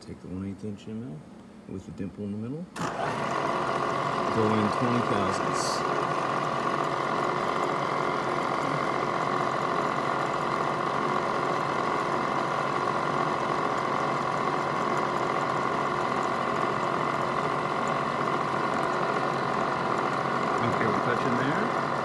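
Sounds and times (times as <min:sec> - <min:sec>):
milling machine spindle whine: 0:02.8 - 0:22.0.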